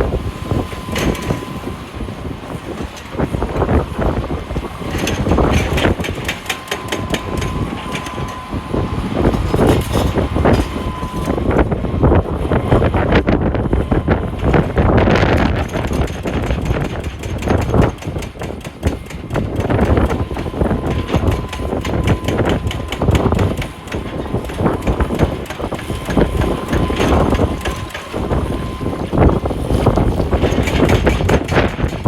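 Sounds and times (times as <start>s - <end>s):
diesel engine under load: 0.0s - 32.0s.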